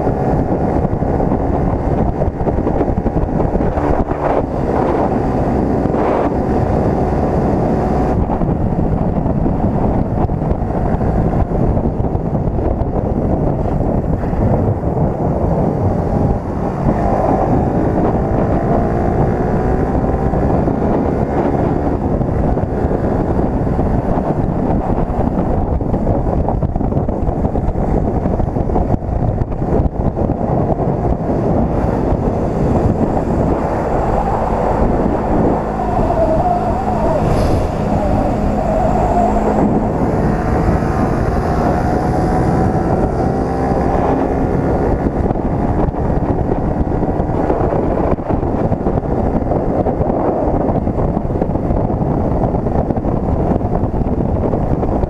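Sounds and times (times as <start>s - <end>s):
motorcycle engine humming: 0.0s - 55.0s
wind rushing over microphone: 0.0s - 55.0s.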